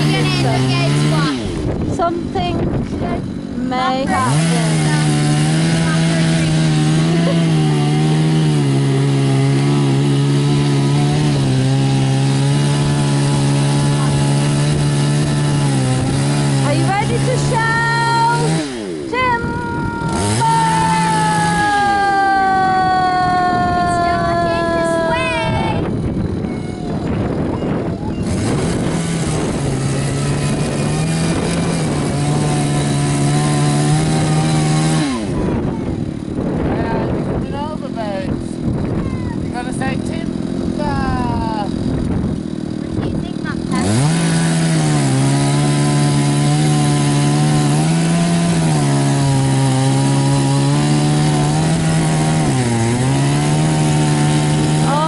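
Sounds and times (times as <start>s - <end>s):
chainsaw cutting tree trunk: 0.0s - 55.0s.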